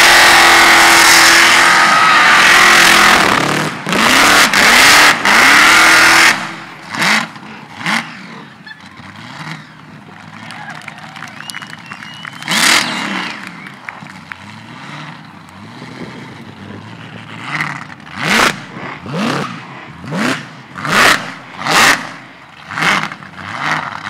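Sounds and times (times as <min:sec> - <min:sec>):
car engine revving hard: 0:00.0 - 0:10.4, 0:12.3 - 0:13.8, 0:14.4 - 0:24.0.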